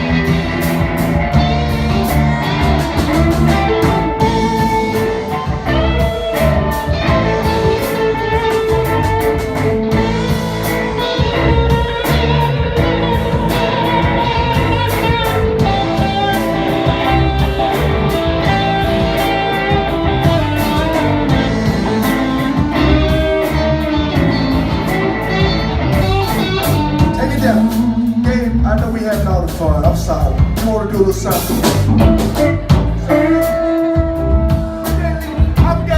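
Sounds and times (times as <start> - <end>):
electric guitar lead: 0.0 - 35.9
live blues band playing: 0.0 - 35.9.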